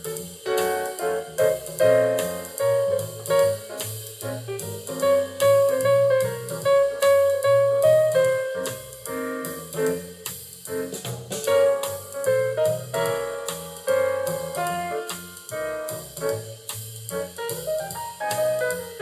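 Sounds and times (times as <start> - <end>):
jazz music with piano and drums: 0.0 - 19.0.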